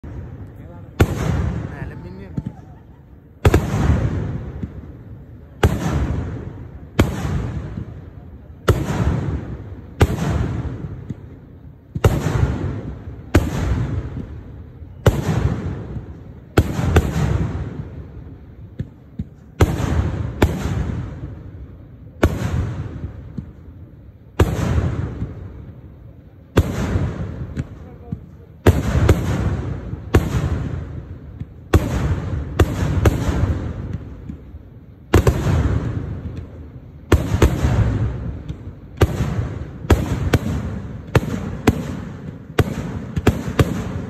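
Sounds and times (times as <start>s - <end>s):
fireworks blasts with rolling echo: 0.0s - 44.0s.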